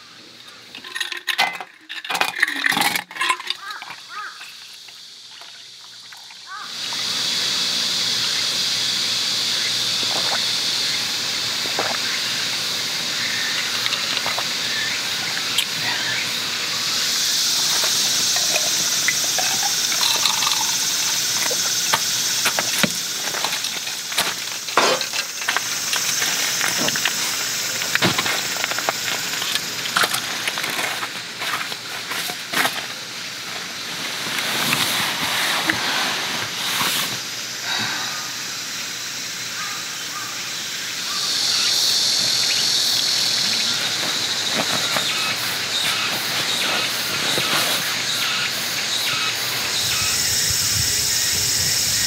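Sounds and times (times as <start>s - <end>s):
cicada chorus hissing: 0.0s - 52.0s.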